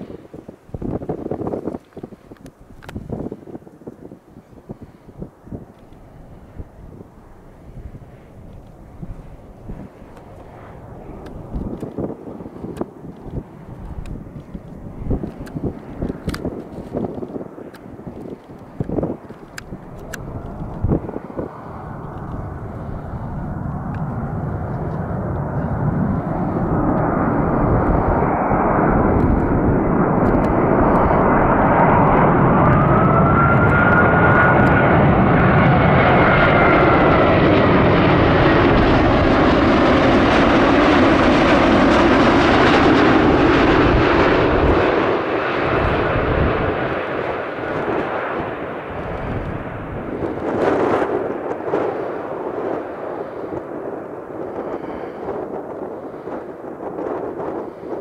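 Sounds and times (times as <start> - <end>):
high turbine whine: 0.0 - 58.0
jet airliner roaring overhead: 0.0 - 58.0.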